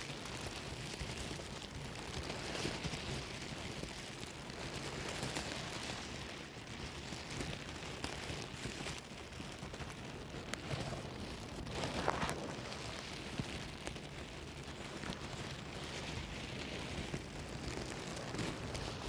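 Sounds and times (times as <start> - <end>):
plastic bag crinkling: 0.3 - 19.0.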